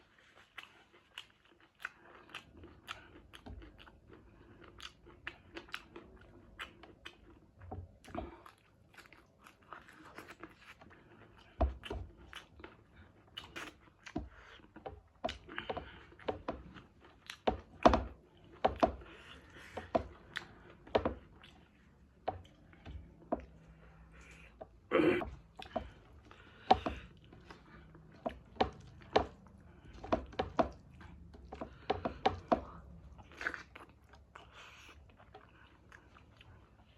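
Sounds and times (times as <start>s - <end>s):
chewing and crunching: 0.0s - 36.9s.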